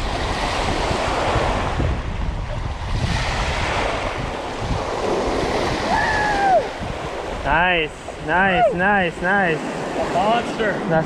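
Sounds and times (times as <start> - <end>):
small waves breaking on sand: 0.0 - 11.0
wind rumbling on microphone: 0.0 - 11.0.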